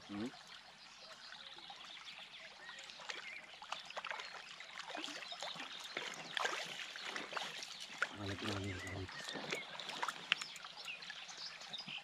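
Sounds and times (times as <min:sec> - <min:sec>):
river water splashing: 0:00.0 - 0:12.0.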